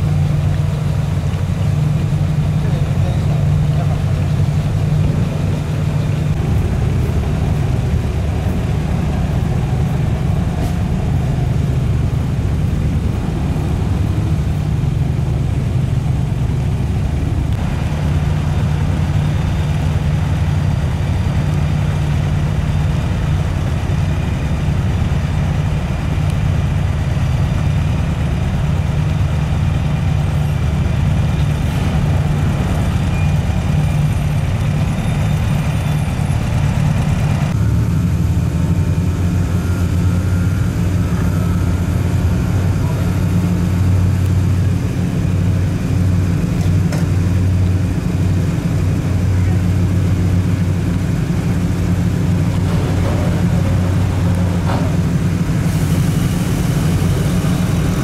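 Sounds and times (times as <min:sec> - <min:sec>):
car engines idling: 0:00.0 - 0:58.0.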